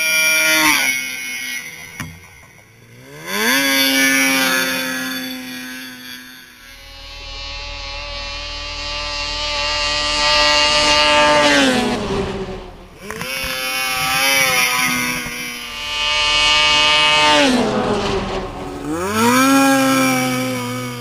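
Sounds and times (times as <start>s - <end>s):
snowmobile engines revving: 0.0s - 21.0s.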